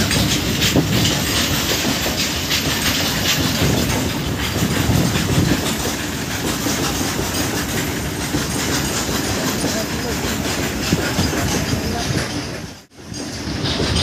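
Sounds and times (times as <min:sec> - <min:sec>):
freight train rumbling past: 0:00.0 - 0:14.0
wheels clattering over rail joints: 0:00.0 - 0:14.0.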